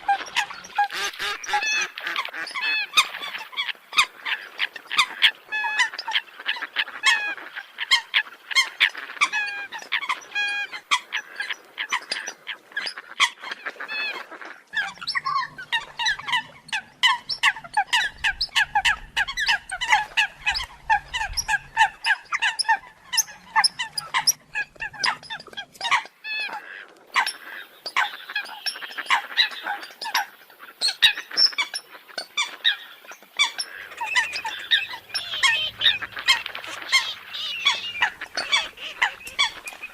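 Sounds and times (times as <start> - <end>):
birds honking calls: 0.0 - 39.9.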